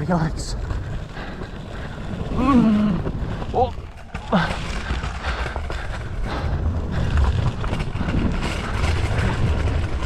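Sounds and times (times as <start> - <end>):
bike rolling on dirt: 0.0 - 10.0
wind rumbling on microphone: 0.0 - 10.0.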